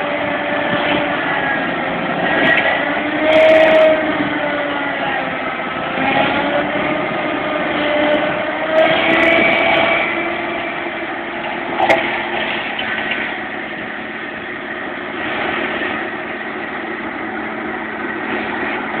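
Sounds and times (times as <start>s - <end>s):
tractor diesel engine: 0.0s - 19.0s.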